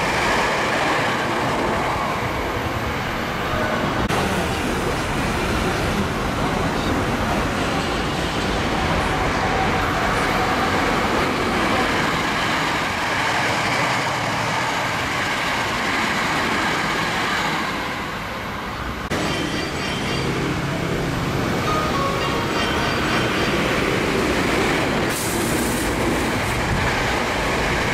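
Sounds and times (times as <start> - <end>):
electric train passing at speed: 0.0 - 27.9
train approaching: 0.0 - 27.9
wheels rumbling on rail: 0.0 - 27.9.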